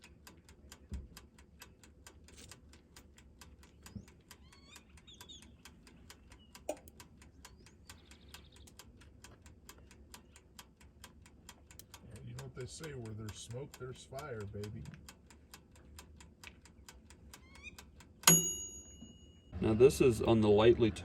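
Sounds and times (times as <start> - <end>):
birds chirping faintly: 0.0 - 14.4, 15.1 - 18.2
dial timer ticking: 0.0 - 19.5.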